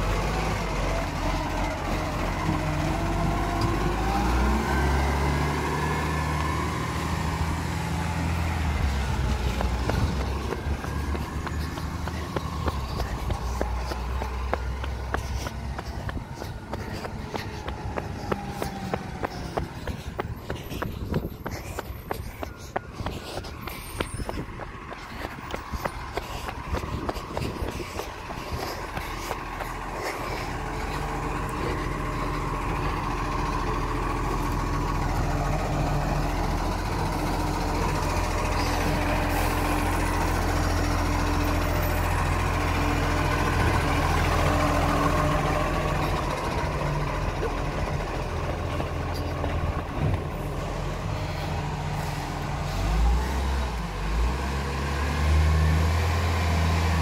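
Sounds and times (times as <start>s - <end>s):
garbage truck engine driving by: 0.0s - 57.0s.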